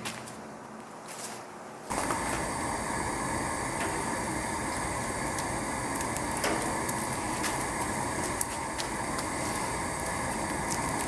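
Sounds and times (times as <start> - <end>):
kiln burner droning: 1.9 - 11.0.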